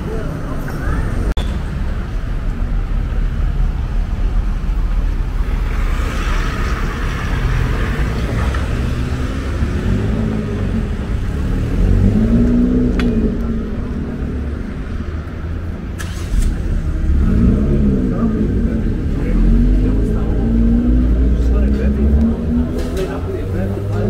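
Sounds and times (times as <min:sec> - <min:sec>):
cars driving past: 0:00.0 - 0:24.0
engine and tyre rumble: 0:00.0 - 0:24.0.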